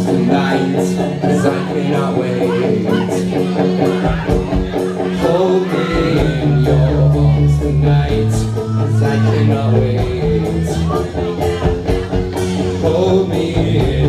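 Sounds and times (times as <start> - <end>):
bass guitar: 0.0 - 14.0
drums: 0.0 - 14.0
electric guitar: 0.0 - 14.0.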